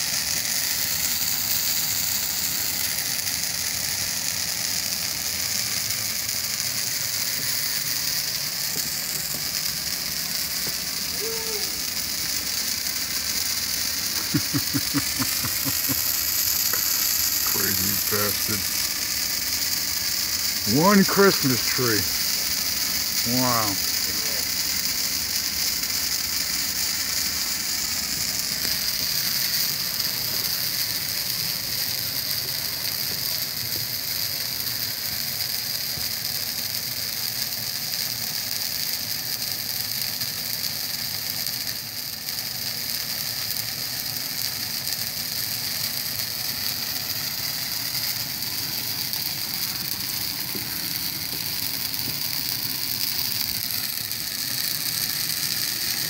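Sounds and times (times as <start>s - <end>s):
tree burning crackling and popping: 0.0s - 56.0s.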